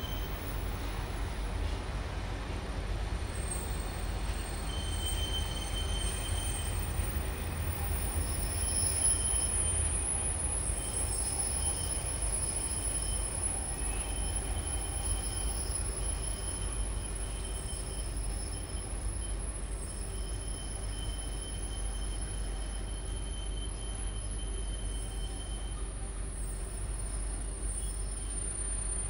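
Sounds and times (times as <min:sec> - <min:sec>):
high-pitched wheel squeals: 0:00.0 - 0:01.1, 0:03.3 - 0:29.0
train wheels rumbling on rail: 0:00.0 - 0:29.0.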